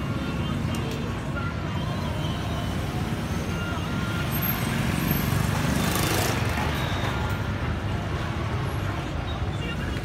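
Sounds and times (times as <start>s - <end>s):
low traffic rumble: 0.0s - 10.0s
motorbike engines passing: 0.0s - 10.0s.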